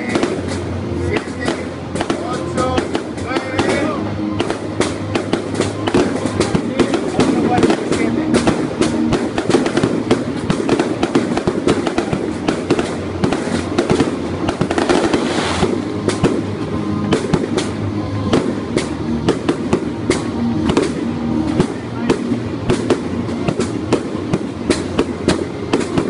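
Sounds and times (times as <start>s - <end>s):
fireworks banging and crackling: 0.0s - 26.0s
music playing: 0.0s - 26.0s.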